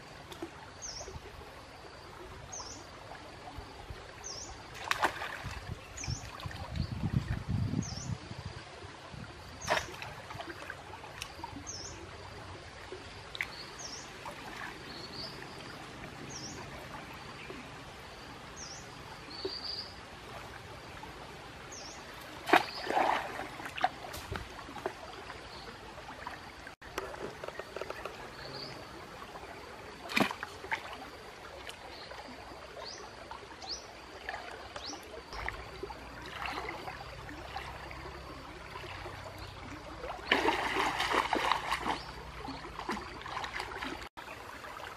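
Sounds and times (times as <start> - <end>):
splashes in shallow water: 0.0 - 7.5, 9.2 - 17.8, 20.2 - 44.9
stream flowing: 0.0 - 44.9.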